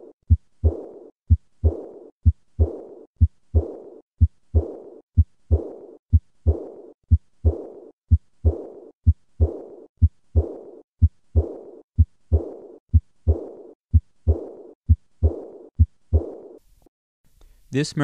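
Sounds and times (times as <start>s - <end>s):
heart murmur: 0.0s - 16.6s
heartbeat thuds: 0.0s - 16.6s.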